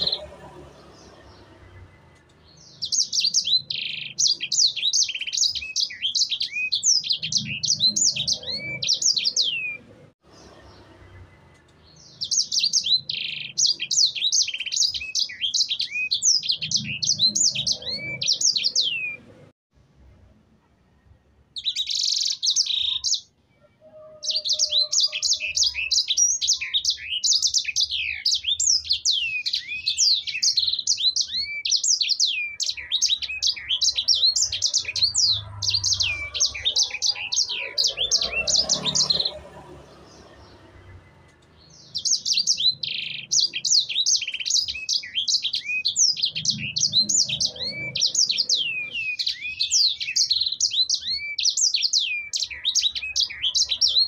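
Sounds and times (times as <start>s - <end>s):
canary singing twittering song: 0.0s - 19.6s, 21.5s - 54.0s.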